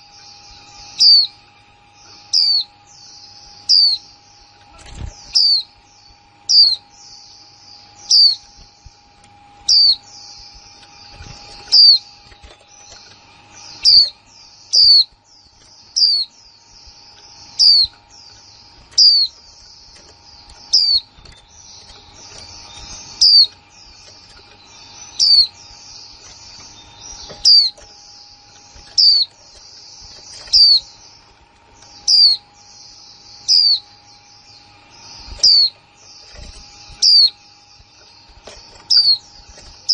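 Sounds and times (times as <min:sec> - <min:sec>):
soft bird twittering: 0:00.0 - 0:39.9.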